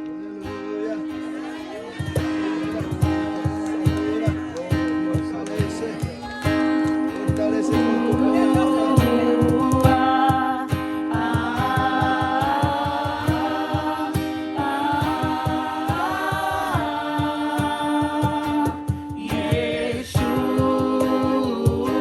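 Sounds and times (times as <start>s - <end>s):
guitar: 0.0s - 22.0s
group singing a worship song: 1.3s - 22.0s
steady low beat: 2.0s - 22.0s.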